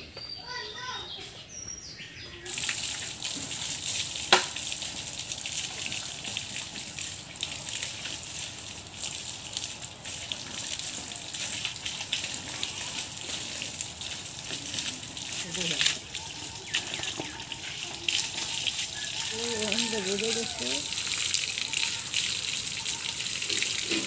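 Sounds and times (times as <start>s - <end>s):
hose water spraying and splashing: 2.4s - 24.0s.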